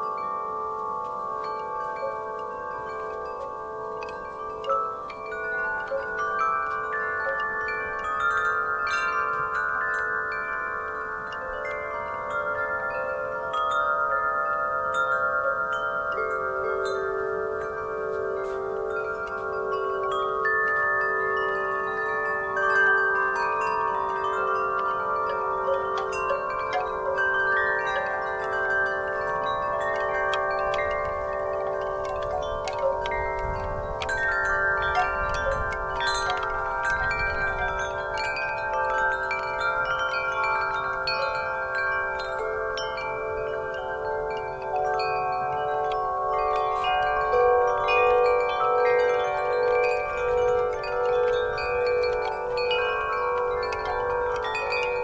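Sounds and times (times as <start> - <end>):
wind chimes ringing: 0.0 - 55.0.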